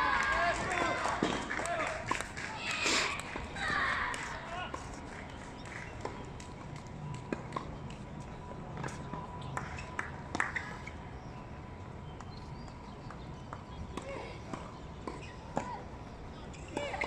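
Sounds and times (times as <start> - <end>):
steady background noise: 0.0 - 17.0
tennis balls bouncing: 0.4 - 2.4, 3.1 - 11.0, 12.0 - 17.0.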